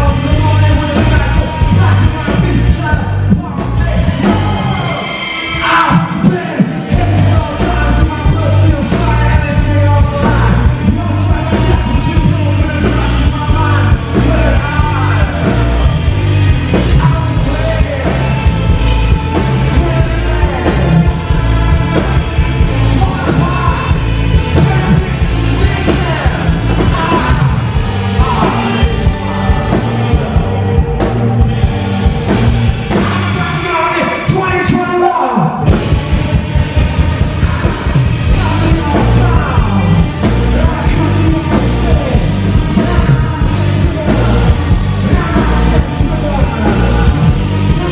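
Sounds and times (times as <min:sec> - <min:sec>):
man yelling and singing: 0:00.0 - 0:32.2, 0:32.8 - 0:47.9
punk rock band playing: 0:00.0 - 0:47.9.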